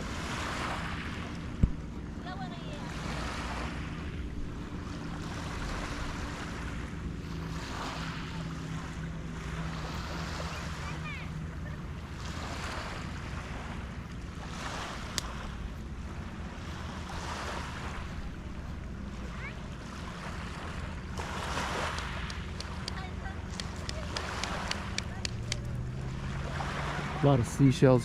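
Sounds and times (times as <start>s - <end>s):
waves washing onto shore: 0.0s - 28.0s.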